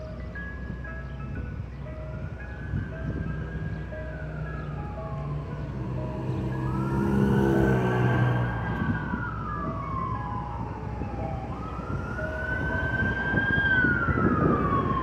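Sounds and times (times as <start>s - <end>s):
street traffic rumble: 0.0s - 15.0s
wailing siren: 0.0s - 15.0s.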